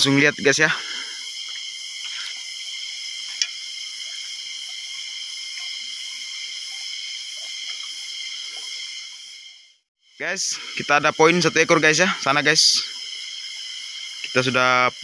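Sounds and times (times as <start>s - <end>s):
shrill insect chorus: 0.0s - 15.0s.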